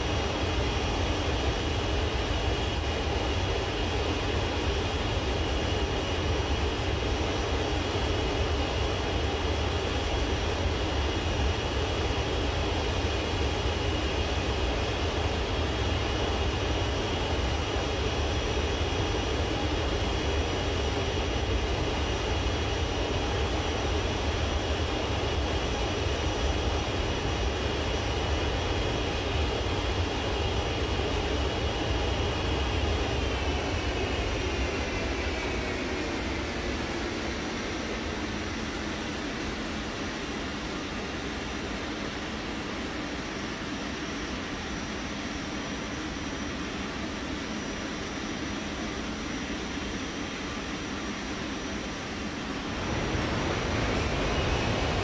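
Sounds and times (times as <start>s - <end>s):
aeroplane engines running: 0.0s - 55.0s.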